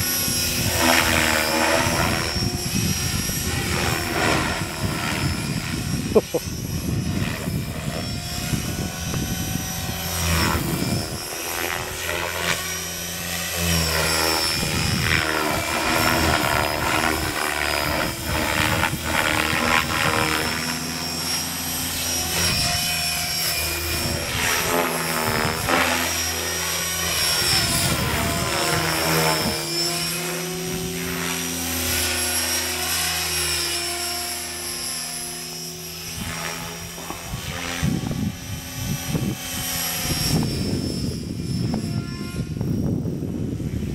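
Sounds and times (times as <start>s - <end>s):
rc helicopter motor whine: 0.0s - 43.9s.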